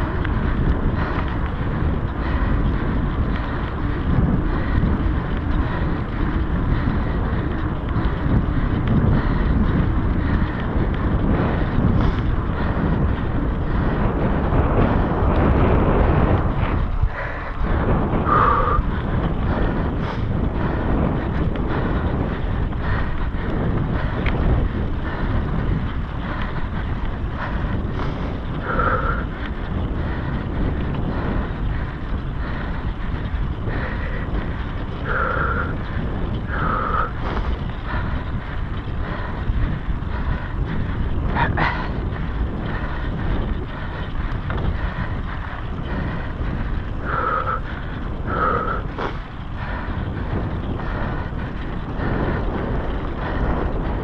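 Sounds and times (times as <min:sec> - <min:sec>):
bike tyres rumbling on trail: 0:00.0 - 0:54.0
wind buffeting microphone: 0:00.0 - 0:54.0.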